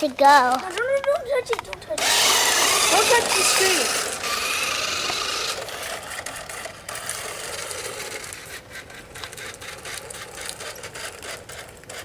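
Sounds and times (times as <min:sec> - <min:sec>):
toy car motor running in spurts: 0:01.5 - 0:12.0.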